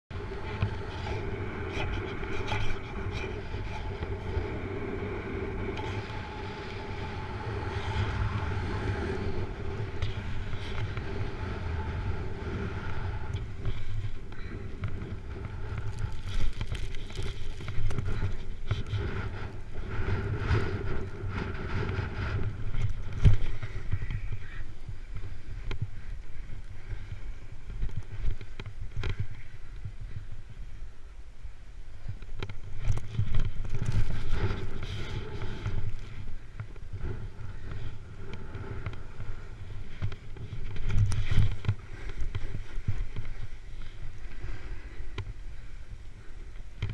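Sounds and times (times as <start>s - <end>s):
wind on microphone: 0.1s - 46.9s
snowboard scraping snow: 0.2s - 26.1s, 32.6s - 46.3s.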